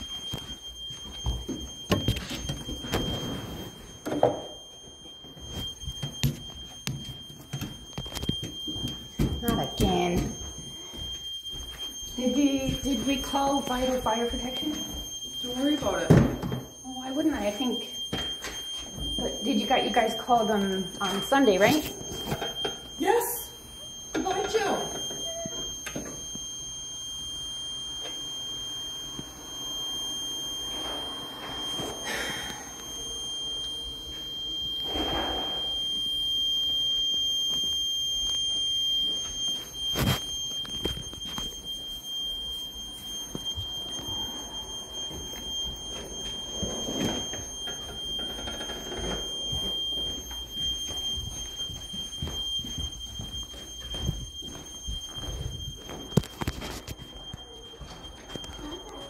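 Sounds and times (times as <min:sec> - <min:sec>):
fire alarm tone: 0:00.0 - 0:59.0.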